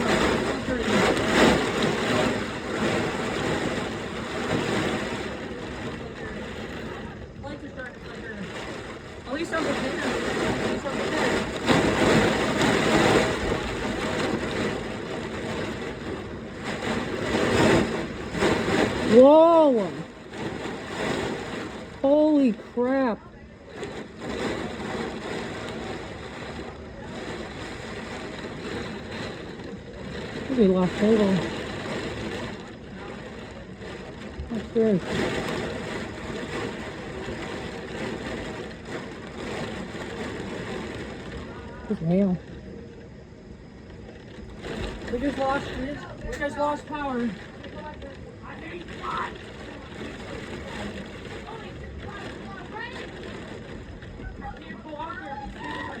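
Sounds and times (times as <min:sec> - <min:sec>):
heavy rain: 0:00.0 - 0:42.5, 0:43.5 - 0:56.0
wind gusts: 0:00.0 - 0:56.0.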